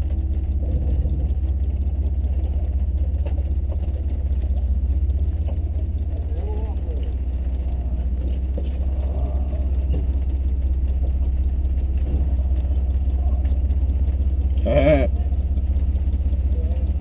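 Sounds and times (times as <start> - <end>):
engine drone inside cab: 0.0 - 17.0.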